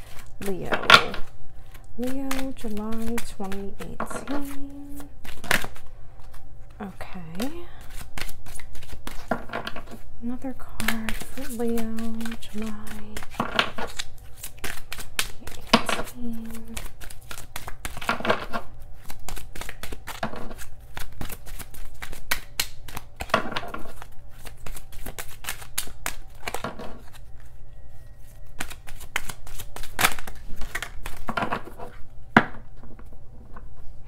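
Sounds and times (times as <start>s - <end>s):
cards being shuffled: 0.0s - 10.1s, 10.7s - 27.6s, 28.2s - 33.9s.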